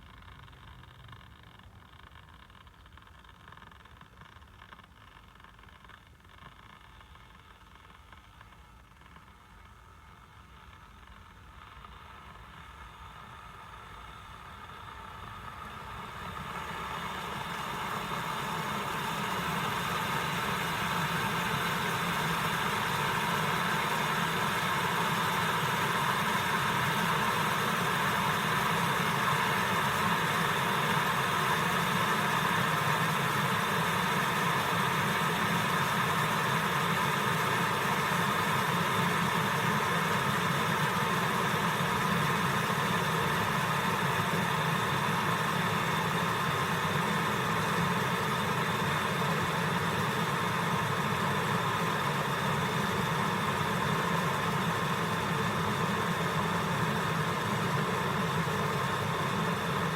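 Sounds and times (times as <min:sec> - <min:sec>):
electric kettle heating water: 0:00.0 - 0:59.9.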